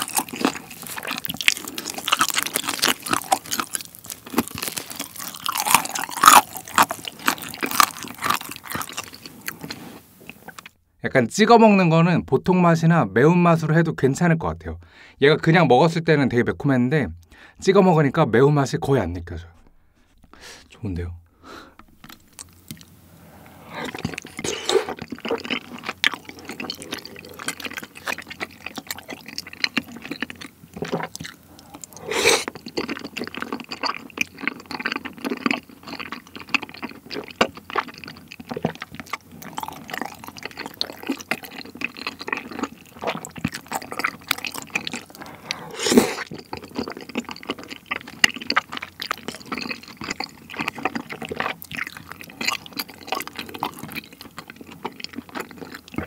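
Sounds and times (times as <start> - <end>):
wet chewing and lip smacking: 0.0 - 10.8, 21.8 - 56.0.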